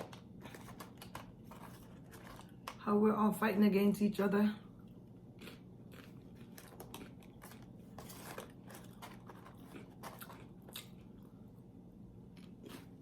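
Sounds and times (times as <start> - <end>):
person chewing crunchy food: 0.0 - 2.8, 4.8 - 13.0.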